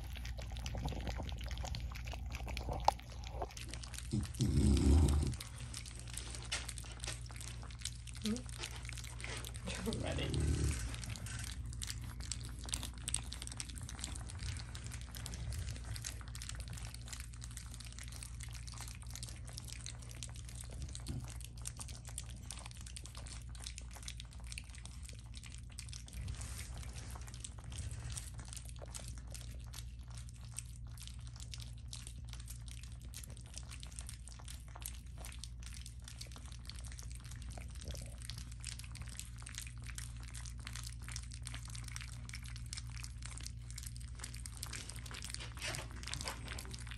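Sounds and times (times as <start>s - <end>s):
puppies lapping food: 0.0s - 46.9s
steady low hum: 0.0s - 46.9s.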